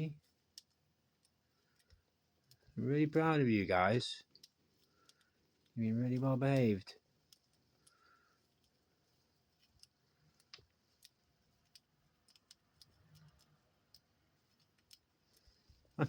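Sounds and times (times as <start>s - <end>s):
faint small clicks: 0.0s - 2.9s, 4.2s - 16.0s.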